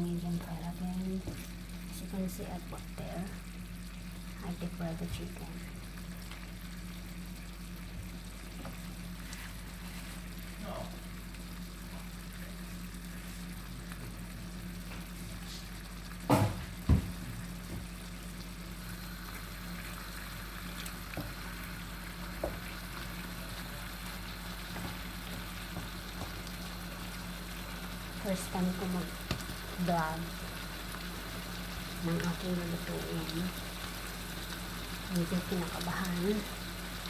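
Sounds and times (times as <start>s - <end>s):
chicken deep-frying in oil: 0.0s - 37.0s.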